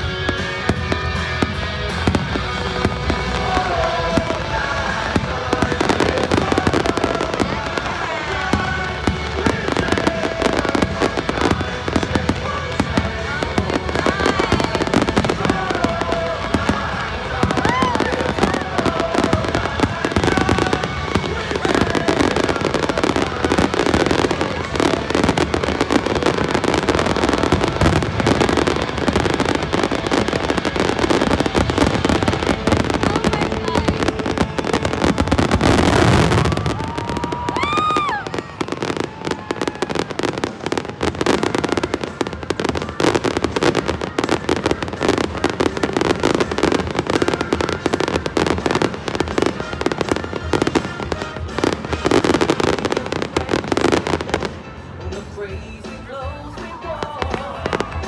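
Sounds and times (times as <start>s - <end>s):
fireworks bangs and crackling: 0.0s - 58.0s
whistling firework: 4.8s - 54.4s.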